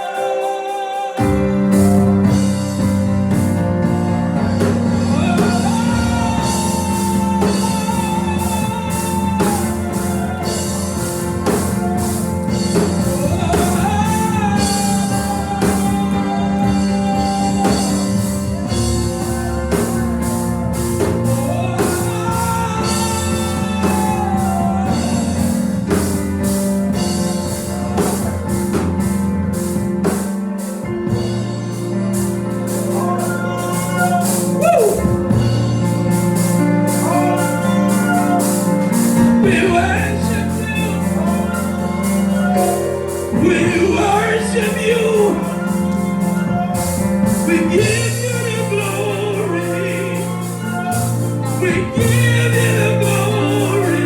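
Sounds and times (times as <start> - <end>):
singing: 0.0 - 30.4, 32.2 - 54.0
gospel band playing: 0.0 - 54.0
steady drum beat: 0.0 - 54.0.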